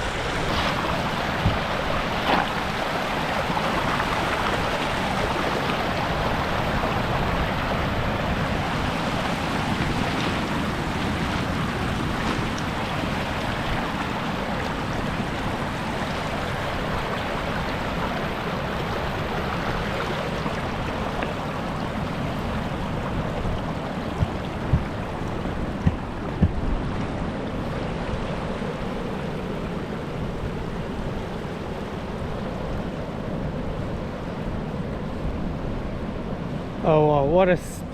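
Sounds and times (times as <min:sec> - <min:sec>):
sea surf and waves: 0:00.0 - 0:37.9.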